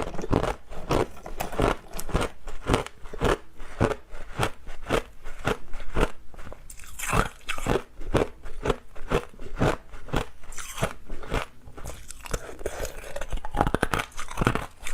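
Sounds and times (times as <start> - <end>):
ice being chewed: 0.0 - 14.9.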